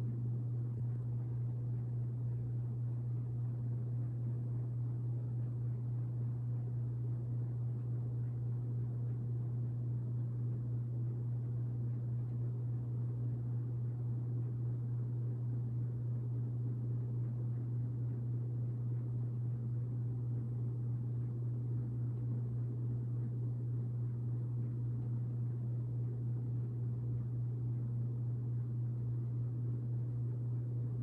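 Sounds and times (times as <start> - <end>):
ceiling fan humming: 0.0 - 31.0.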